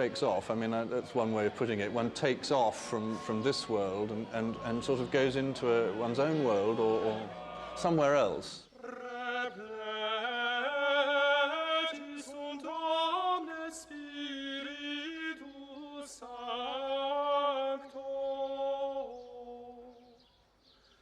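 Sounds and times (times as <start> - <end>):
unaccompanied chant singing: 0.0 - 20.3.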